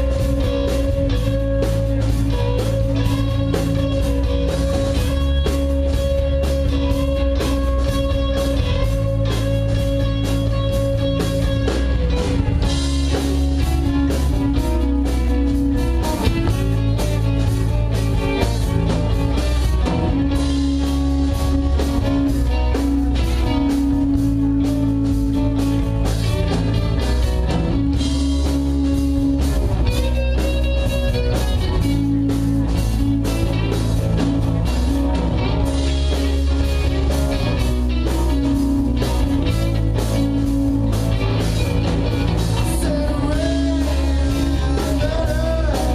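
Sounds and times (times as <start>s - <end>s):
bass guitar: 0.0s - 45.9s
drums: 0.0s - 45.9s
electric guitar: 0.0s - 45.9s.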